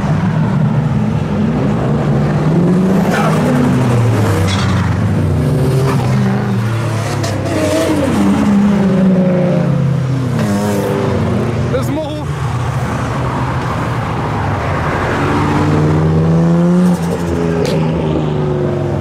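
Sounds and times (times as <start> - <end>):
cars driving past revving: 0.0 - 19.0.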